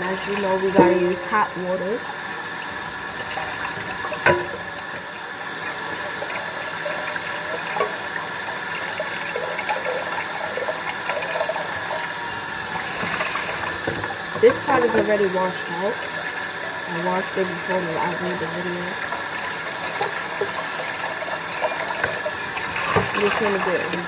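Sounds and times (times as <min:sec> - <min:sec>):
water running from tap: 0:00.0 - 0:24.0.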